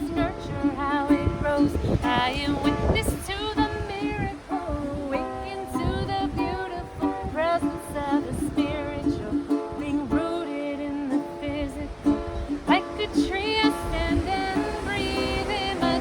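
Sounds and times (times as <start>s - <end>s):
ukulele plucked notes: 0.0s - 16.0s
woman singing: 0.0s - 16.0s.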